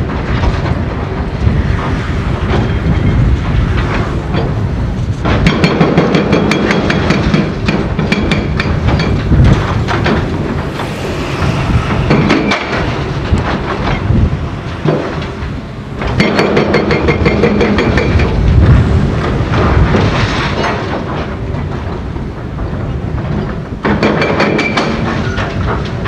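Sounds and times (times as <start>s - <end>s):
steady engine drone: 0.0s - 23.1s.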